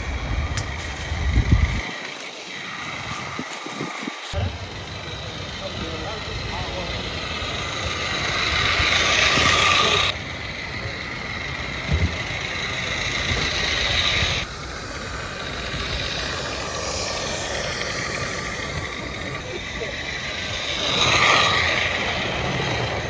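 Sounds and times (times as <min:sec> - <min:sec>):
steam locomotive hissing: 0:00.0 - 0:23.0.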